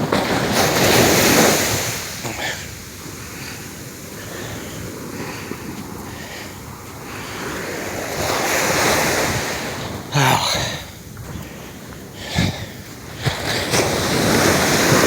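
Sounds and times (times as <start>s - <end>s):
small waves breaking on shore: 0.0s - 15.0s
wind rumbling on microphone: 0.0s - 15.0s.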